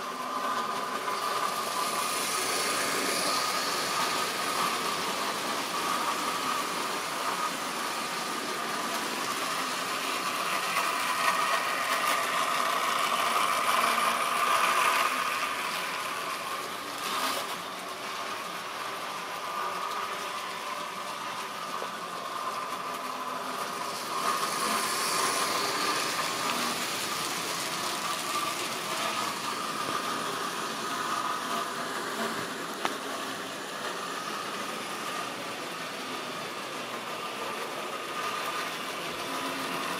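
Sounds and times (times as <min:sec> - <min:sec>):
model train motor whine: 0:00.0 - 0:39.9
wheels rattling on track: 0:00.0 - 0:39.9.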